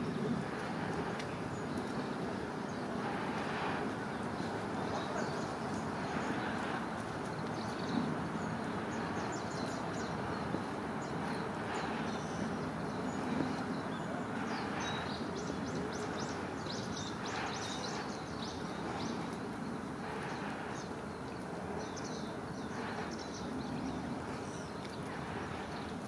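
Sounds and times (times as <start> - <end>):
outdoor background noise: 0.0 - 26.0
small birds chirping: 0.7 - 26.0.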